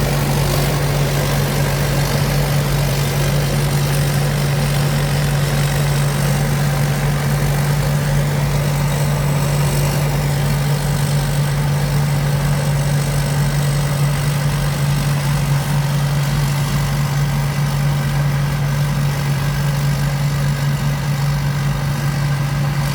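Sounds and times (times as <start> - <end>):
combine harvester engine running: 0.0 - 22.9.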